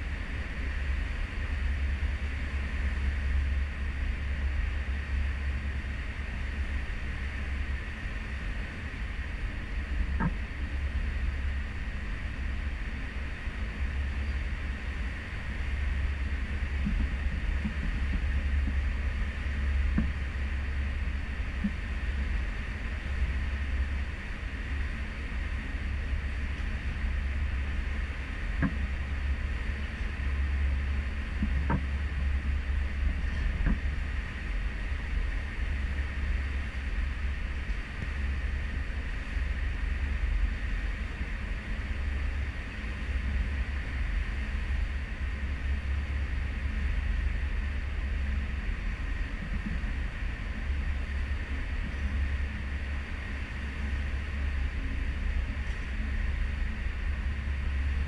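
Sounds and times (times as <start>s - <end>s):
ship engine rumble: 0.0s - 58.0s
wind: 0.0s - 58.0s.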